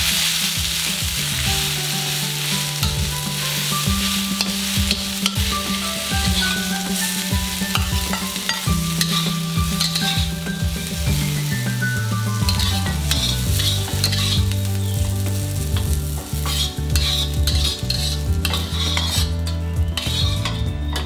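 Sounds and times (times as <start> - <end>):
greens sizzling in oil: 0.0 - 21.0
metal spatula scraping wok: 1.3 - 21.0.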